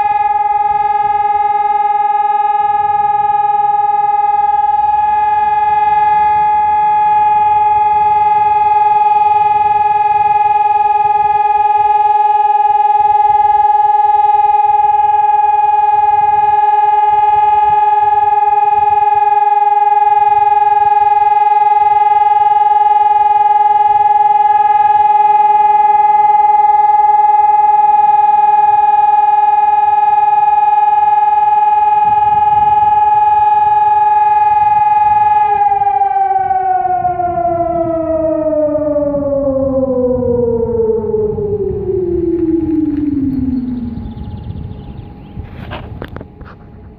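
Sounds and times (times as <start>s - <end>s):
siren steady tone: 0.0s - 46.9s.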